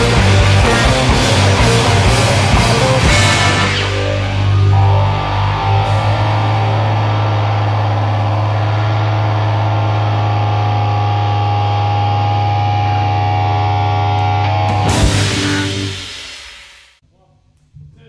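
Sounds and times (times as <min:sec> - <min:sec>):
loud guitar and bass drone: 0:00.0 - 0:17.0.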